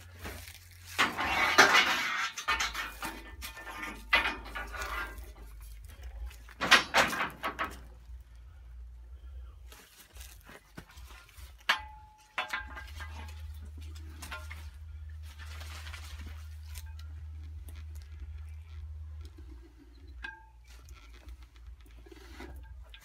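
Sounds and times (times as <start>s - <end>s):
steel pipe clanking: 0.2s - 8.0s, 11.1s - 15.5s, 16.3s - 23.0s.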